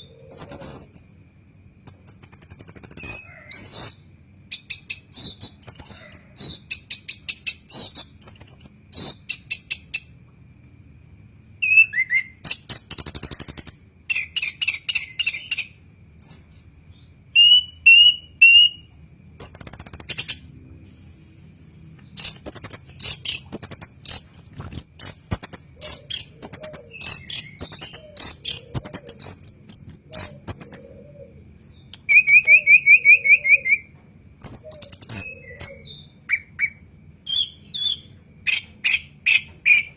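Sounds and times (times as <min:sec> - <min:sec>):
bird singing varied phrases: 0:00.0 - 0:01.2, 0:01.8 - 0:10.2, 0:11.6 - 0:20.5, 0:22.0 - 0:39.9.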